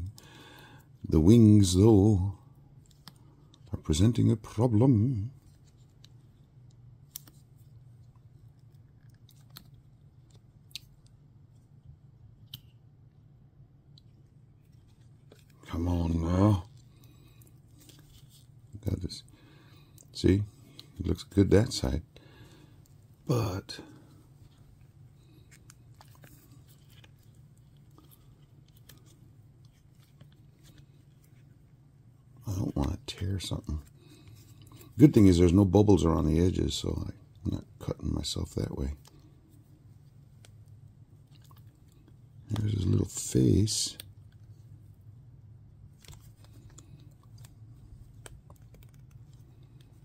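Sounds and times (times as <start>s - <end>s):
low steady hum: 0.0s - 50.0s.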